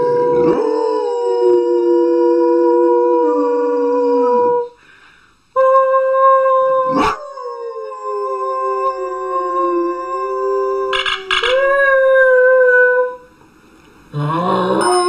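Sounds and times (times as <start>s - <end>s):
dog howling: 0.0s - 4.8s, 5.6s - 13.3s, 14.2s - 15.0s.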